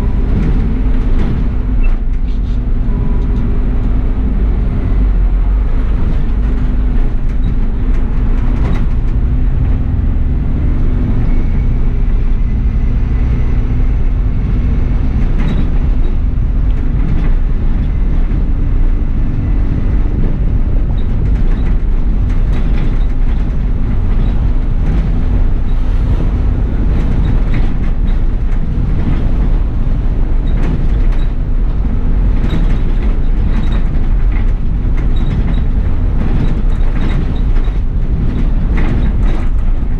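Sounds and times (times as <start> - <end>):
light rattles and clicks: 0.0 - 4.0, 5.7 - 10.2, 14.8 - 39.9
bus engine and road rumble: 0.0 - 39.9.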